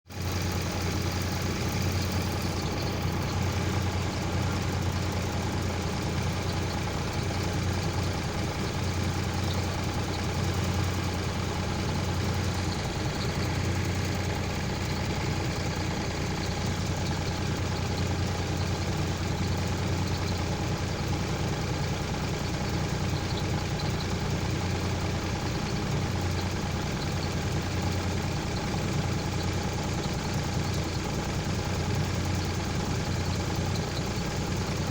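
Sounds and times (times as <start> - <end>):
heavy vehicle engine idling: 0.1 - 34.9.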